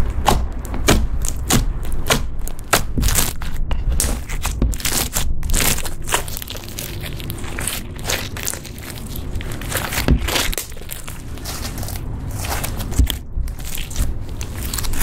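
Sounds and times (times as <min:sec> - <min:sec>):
slime squelching and popping: 0:00.0 - 0:15.0.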